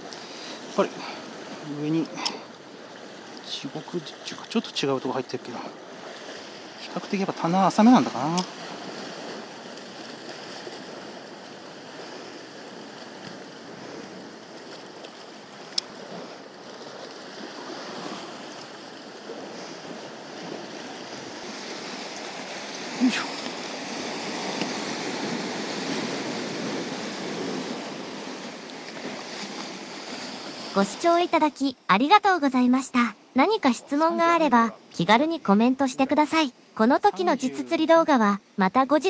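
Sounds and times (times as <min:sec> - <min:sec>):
surf washing against rocks: 0:00.0 - 0:31.7
light wind: 0:00.0 - 0:38.6.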